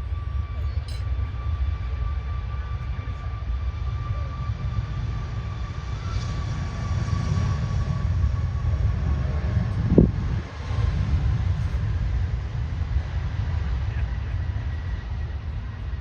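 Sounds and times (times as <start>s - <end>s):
jet engines at takeoff thrust: 0.0s - 16.0s.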